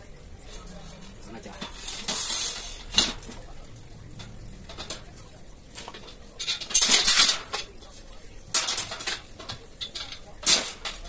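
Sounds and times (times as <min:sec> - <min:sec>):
metal clatter and scraping: 0:00.0 - 0:11.0.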